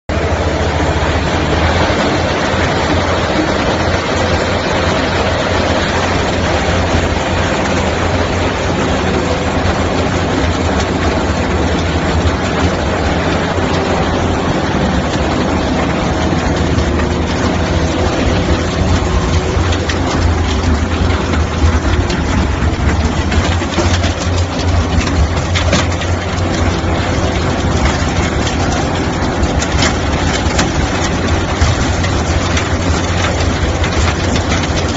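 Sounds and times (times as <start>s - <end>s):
loader engine droning: 0.1s - 34.9s.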